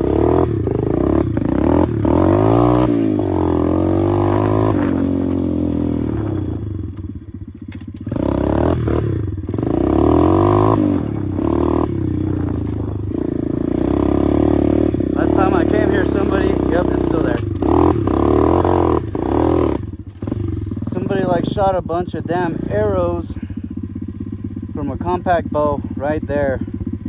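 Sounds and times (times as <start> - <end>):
bike knocks and rattles: 0.0 - 24.1
pit bike engine revving: 0.0 - 27.0.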